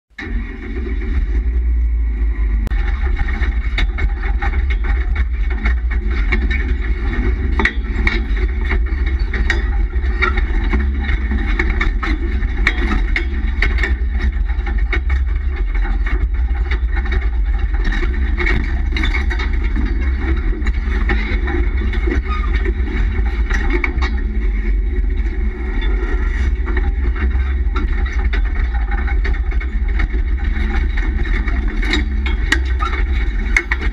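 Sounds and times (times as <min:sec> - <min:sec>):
engine and road rumble: 0:00.1 - 0:33.9.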